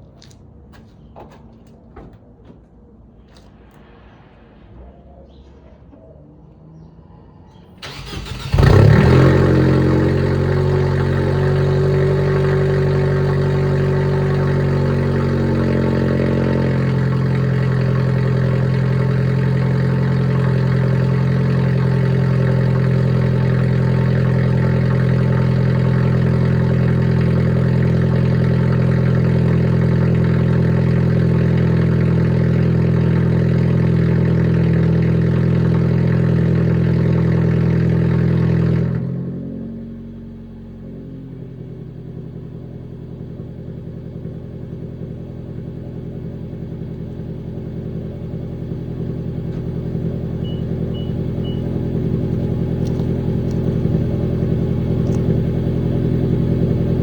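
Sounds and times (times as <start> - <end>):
car engine cold start and idle: 7.6 - 57.0.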